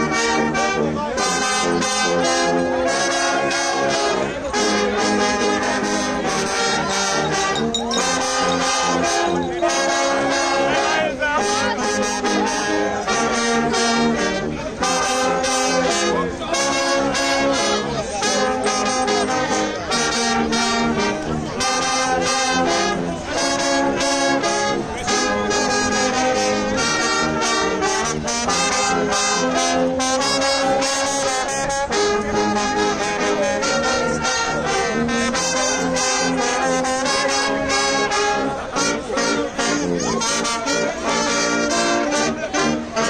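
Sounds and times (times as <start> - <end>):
brass band playing: 0.0 - 43.0.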